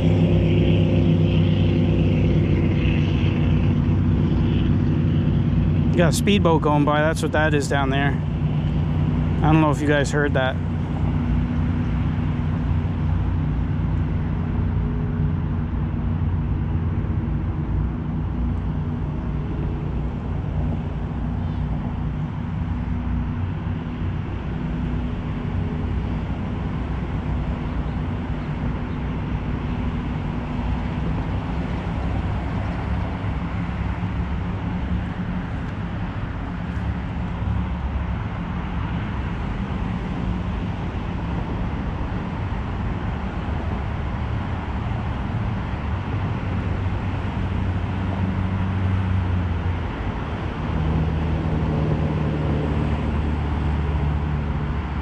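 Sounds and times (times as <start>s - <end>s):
held engine tones: 0.0s - 55.0s
road traffic drone: 0.0s - 55.0s.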